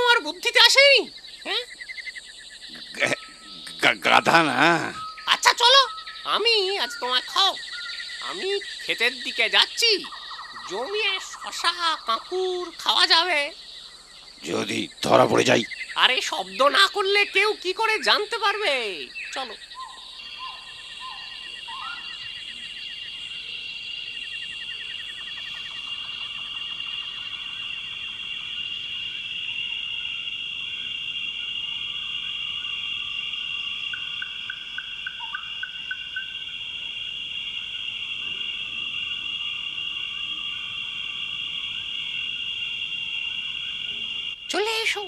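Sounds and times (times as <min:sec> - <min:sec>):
crickets chirring: 0:00.0 - 0:45.0
insect trills: 0:00.0 - 0:45.0
short insect chirps: 0:00.0 - 0:45.0.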